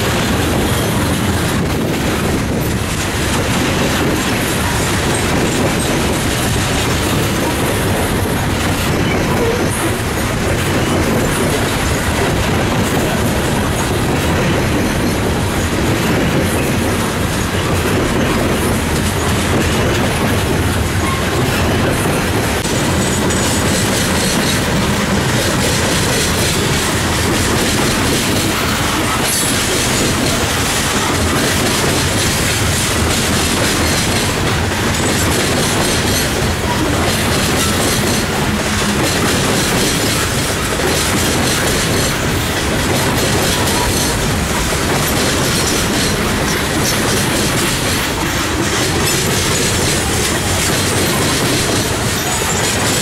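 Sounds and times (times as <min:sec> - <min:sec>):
freight train rumbling past: 0:00.0 - 0:53.0
steel wheels clattering on rails: 0:00.0 - 0:53.0.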